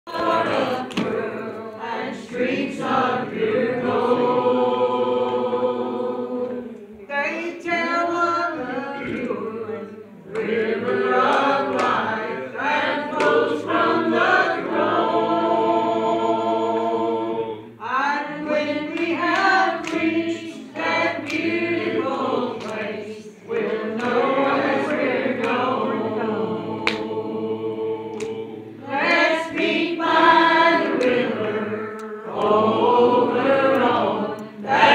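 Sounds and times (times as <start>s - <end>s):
congregation singing a hymn: 0.1s - 34.9s.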